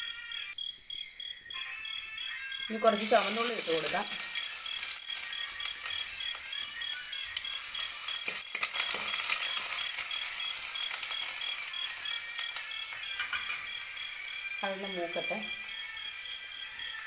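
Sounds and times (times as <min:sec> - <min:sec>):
shallots sizzling in hot oil: 0:02.7 - 0:17.0.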